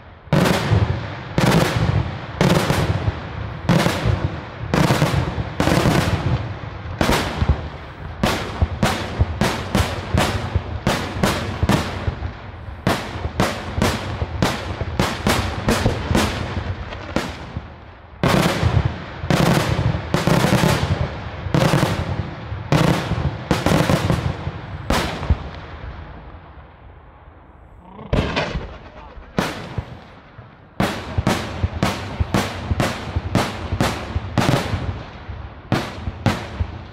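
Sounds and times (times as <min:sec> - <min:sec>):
firework bangs echoing: 0:00.0 - 0:26.8, 0:28.1 - 0:36.9.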